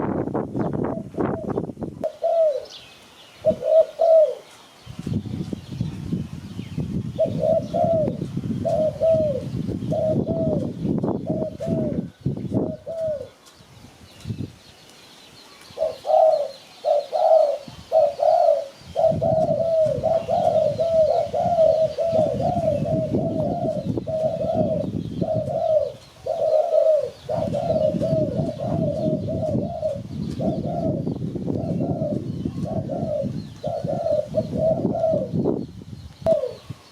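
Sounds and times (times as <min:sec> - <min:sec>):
small birds chirping: 0:00.0 - 0:36.9
dove cooing: 0:00.6 - 0:02.8, 0:03.4 - 0:04.6, 0:07.0 - 0:13.5, 0:15.8 - 0:35.5, 0:36.2 - 0:36.9.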